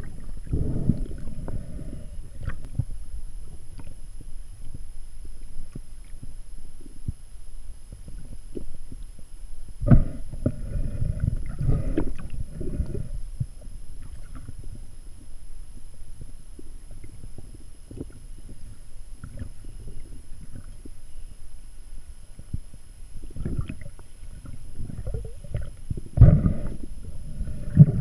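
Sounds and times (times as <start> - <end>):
underwater water rumble: 0.0 - 28.0.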